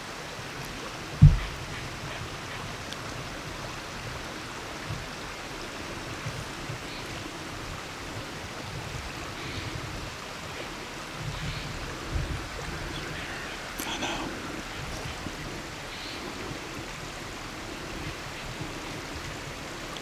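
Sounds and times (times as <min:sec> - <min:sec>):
wind buffeting microphone: 0:00.5 - 0:20.0.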